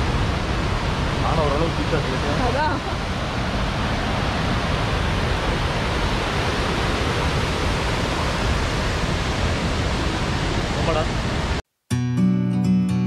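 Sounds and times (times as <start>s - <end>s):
waterfall rushing over rocks: 0.0s - 11.6s.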